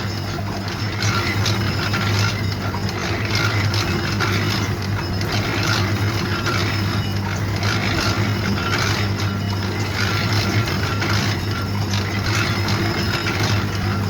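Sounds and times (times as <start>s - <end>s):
machinery humming and clattering: 0.0s - 14.0s.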